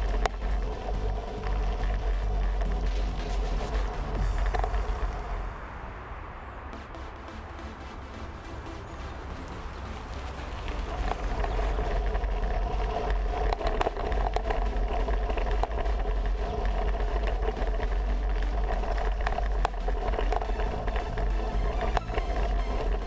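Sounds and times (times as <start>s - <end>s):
bike clicks and rattles: 0.0s - 5.0s, 9.4s - 23.0s
tyres on gravel: 0.0s - 5.4s, 7.6s - 23.0s
wind rumbling on microphone: 0.0s - 6.8s, 7.7s - 23.0s.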